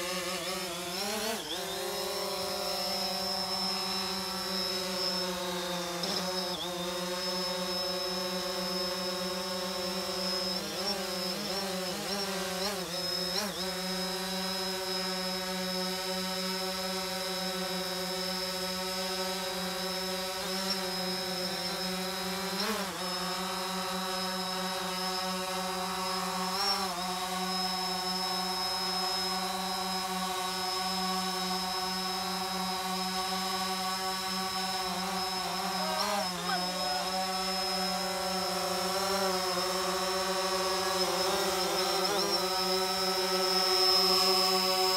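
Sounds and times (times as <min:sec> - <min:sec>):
drone propellers buzzing: 0:00.0 - 0:44.9.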